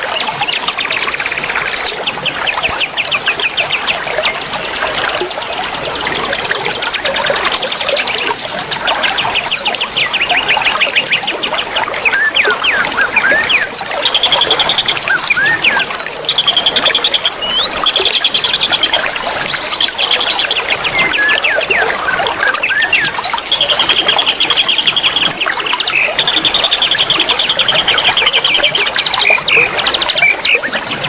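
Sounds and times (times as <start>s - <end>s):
songbirds chirping and twittering: 0.0s - 31.0s.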